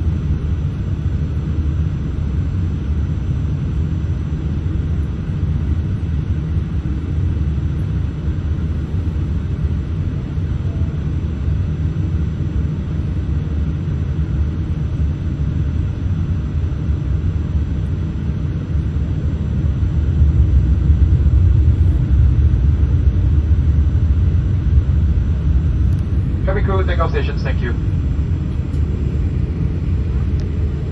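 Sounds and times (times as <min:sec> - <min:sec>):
aircraft engines at taxi power: 0:00.0 - 0:30.9.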